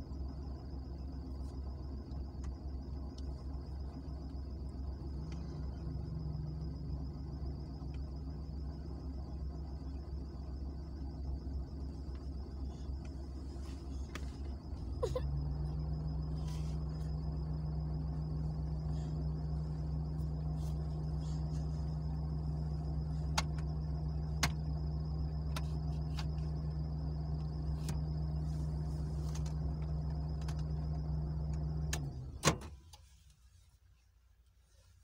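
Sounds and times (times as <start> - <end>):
car engine running in cabin: 0.0 - 35.0.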